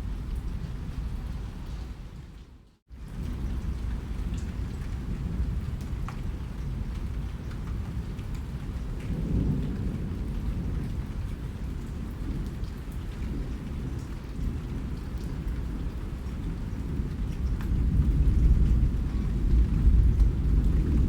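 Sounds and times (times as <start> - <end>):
steady rainfall: 0.0 - 21.0
raindrop ticks: 3.2 - 21.0.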